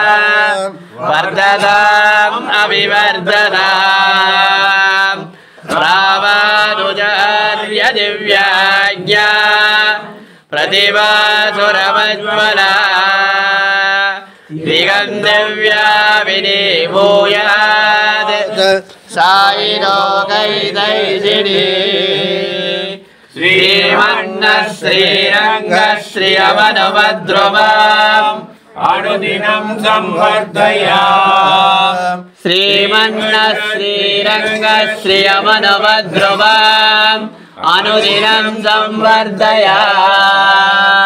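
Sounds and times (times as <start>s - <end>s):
men chanting in unison: 0.0s - 41.0s.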